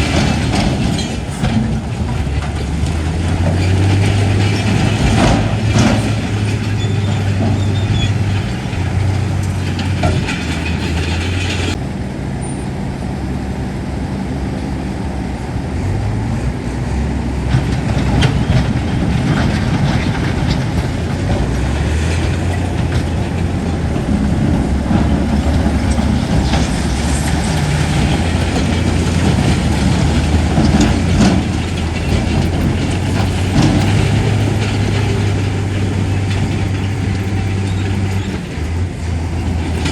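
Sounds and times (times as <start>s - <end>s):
metallic clanks and rattles: 0.0s - 11.8s, 17.5s - 39.9s
bulldozer engine hum: 0.0s - 39.9s.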